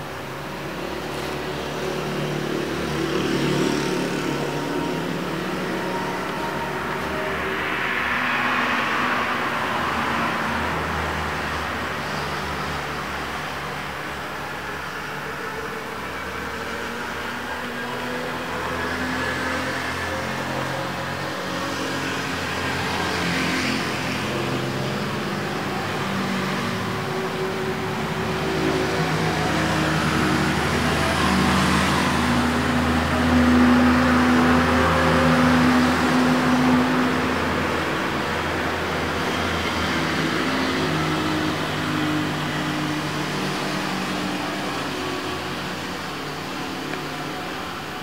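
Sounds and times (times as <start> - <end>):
rush of noise: 0.0 - 48.0.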